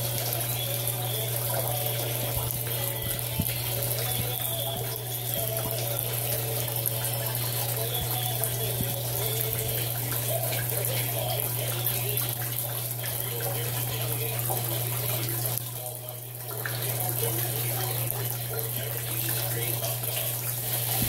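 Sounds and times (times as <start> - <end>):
water swirling and draining: 0.0 - 21.0.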